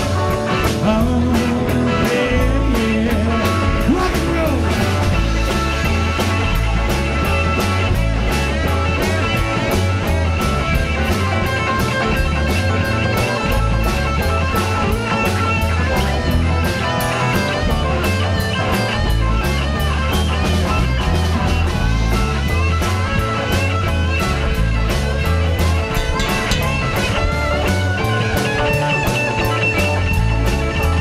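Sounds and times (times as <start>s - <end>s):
bass guitar: 0.0s - 31.0s
drum kit with cymbals: 0.0s - 31.0s
electric guitar: 0.0s - 31.0s.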